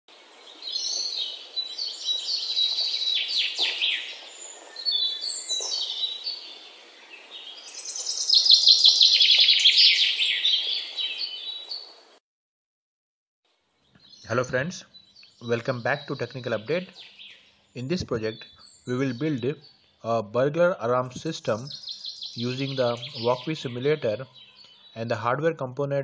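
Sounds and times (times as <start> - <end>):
birds chirping and trilling: 0.1 - 12.2, 13.6 - 26.0.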